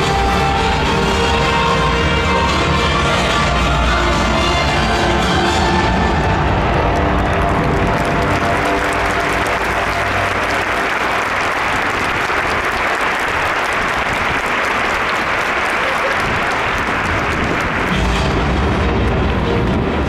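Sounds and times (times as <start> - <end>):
stadium crowd applauding: 0.0 - 20.0.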